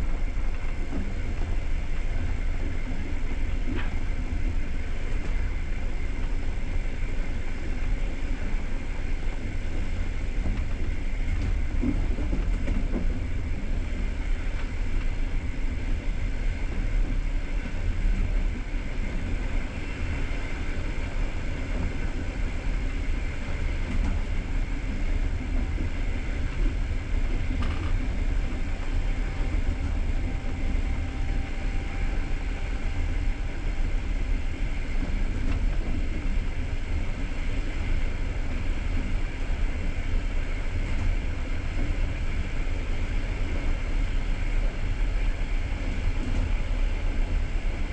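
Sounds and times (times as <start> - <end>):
train rumble and hiss: 0.0 - 47.9.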